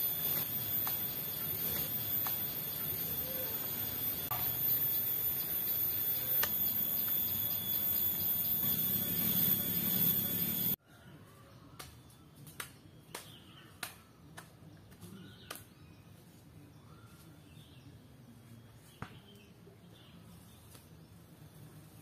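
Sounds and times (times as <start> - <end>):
small birds chirping: 0.0 - 10.8, 11.5 - 21.3
faint forest ambience: 0.0 - 22.0.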